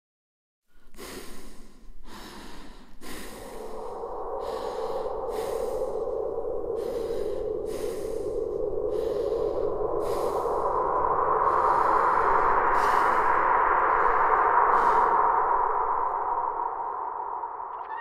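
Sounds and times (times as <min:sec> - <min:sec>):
person breathing heavily: 0:00.7 - 0:17.0
steady drone: 0:01.3 - 0:18.0.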